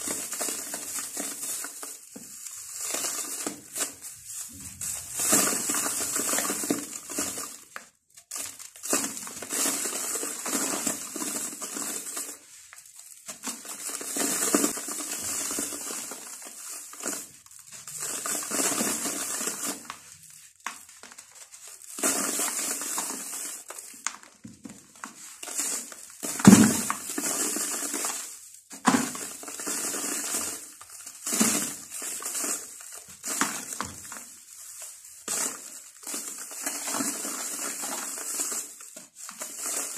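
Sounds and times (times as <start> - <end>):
clumps crumbled by hand: 0.0 - 39.9.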